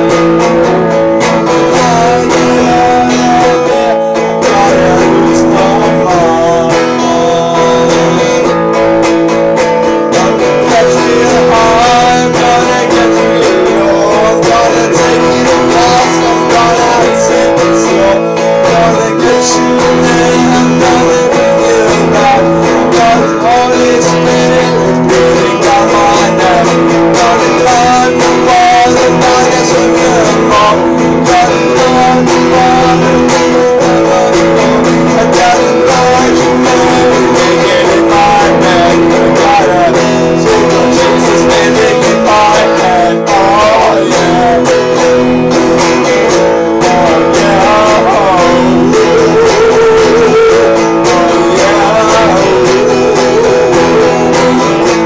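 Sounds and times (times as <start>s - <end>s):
guitar strumming chords: 0.0s - 55.0s
man singing: 0.0s - 55.0s.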